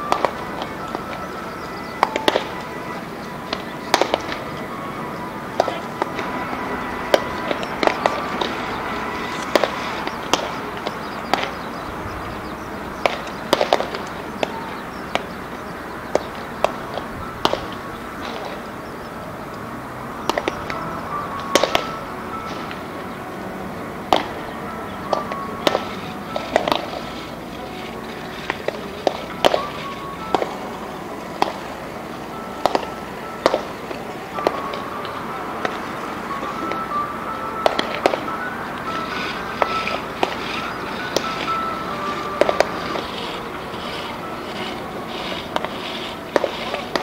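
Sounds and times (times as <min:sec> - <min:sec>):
background music: 0:00.0 - 0:47.0.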